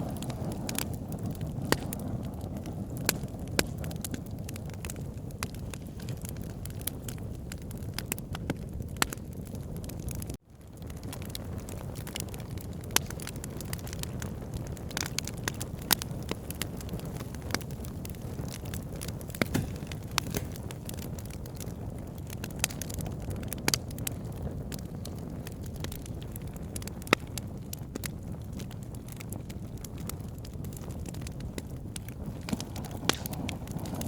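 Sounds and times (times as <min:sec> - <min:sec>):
campfire rumble: 0:00.0 - 0:34.0
fire crackling and popping: 0:00.0 - 0:34.0.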